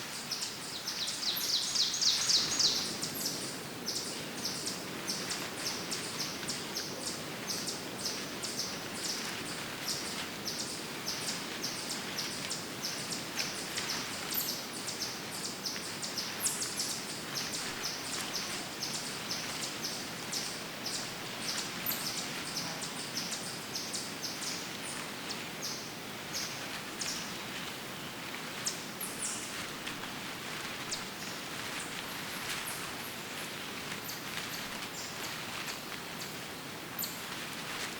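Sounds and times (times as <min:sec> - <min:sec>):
songbirds chirping: 0:00.0 - 0:37.9
woodland background hiss: 0:00.0 - 0:37.9.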